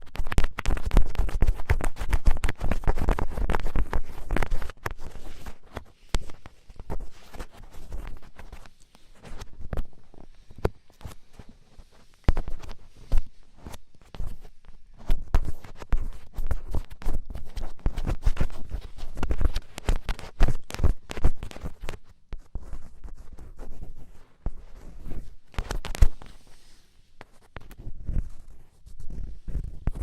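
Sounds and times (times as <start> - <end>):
ear-pick scratching: 0.0 - 30.0.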